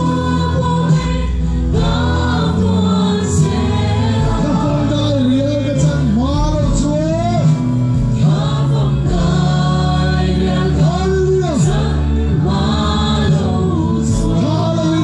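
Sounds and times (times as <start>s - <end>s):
voices singing together: 0.0s - 15.0s
worship band playing: 0.0s - 15.0s.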